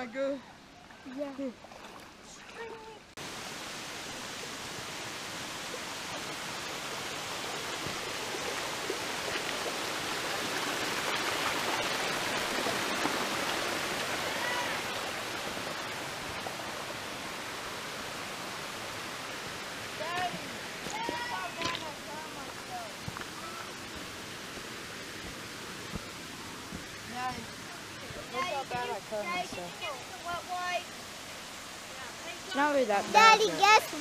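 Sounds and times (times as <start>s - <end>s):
creek water rushing over rocks: 0.0s - 34.0s.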